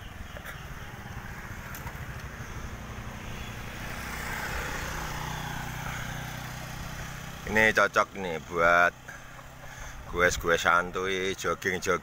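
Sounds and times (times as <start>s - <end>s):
small motorcycle engine running: 0.0s - 12.0s
wind and road noise: 0.0s - 12.0s.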